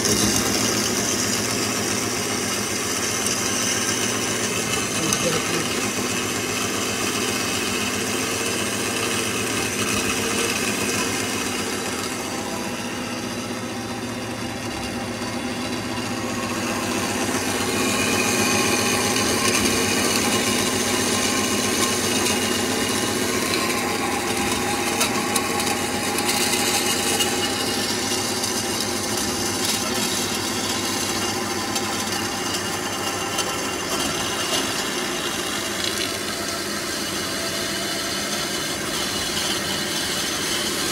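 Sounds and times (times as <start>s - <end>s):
band saw cutting steel: 0.0s - 40.9s.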